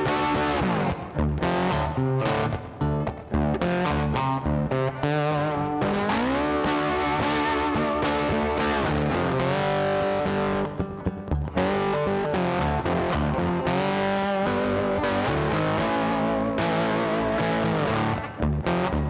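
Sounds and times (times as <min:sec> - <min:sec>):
distorted electric guitar bending notes: 0:00.0 - 0:19.0.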